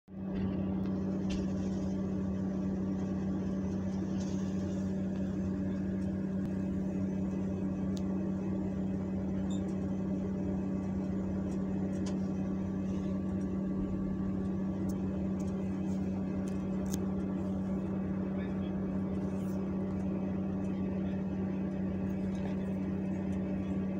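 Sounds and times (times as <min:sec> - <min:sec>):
low mechanical hum: 0:00.1 - 0:23.9.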